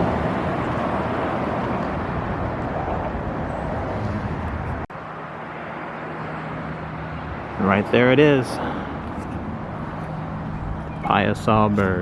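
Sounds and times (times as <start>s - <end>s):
passing road traffic: 0.0s - 12.0s.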